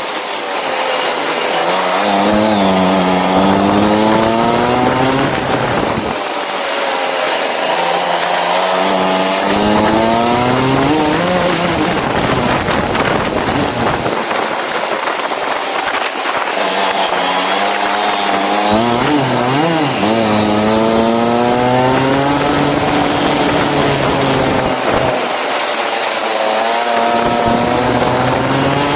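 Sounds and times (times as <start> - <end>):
constant rushing noise: 0.0 - 28.9
go-kart engine revving: 0.0 - 28.9.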